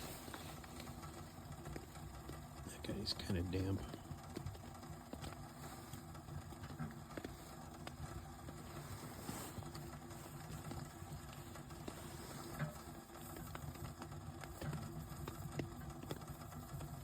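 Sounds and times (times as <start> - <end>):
rain pattering on tent: 0.0 - 17.0.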